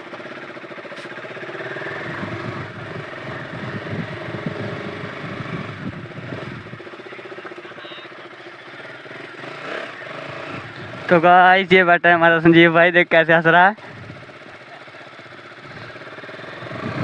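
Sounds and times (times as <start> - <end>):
motorcycle engine throbbing: 0.0 - 17.0.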